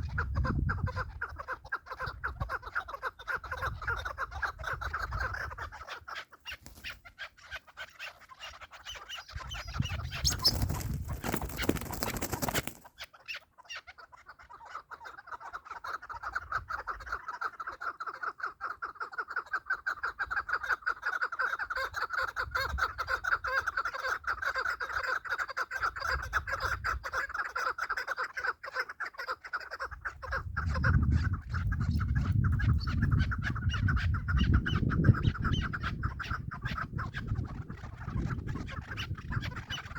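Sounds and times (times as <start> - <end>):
partridge clucking calls: 0.0 - 39.9.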